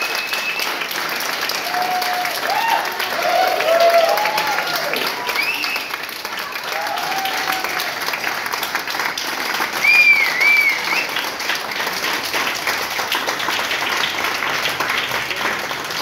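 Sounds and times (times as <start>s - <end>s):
audience applauding: 0.0s - 16.0s
crowd cheering: 0.0s - 16.0s.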